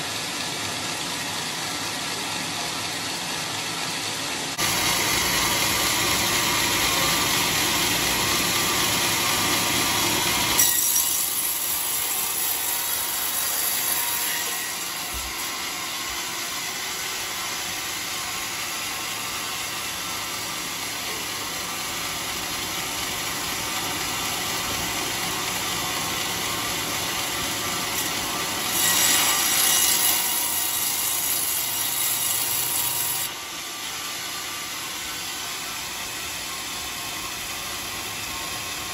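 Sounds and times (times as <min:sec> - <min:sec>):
saw blade rasping through wood: 0:04.6 - 0:38.9.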